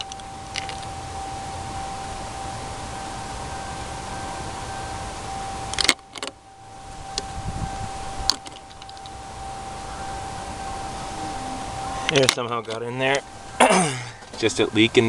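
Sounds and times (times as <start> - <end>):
power steering pump whine: 0.0 - 15.0.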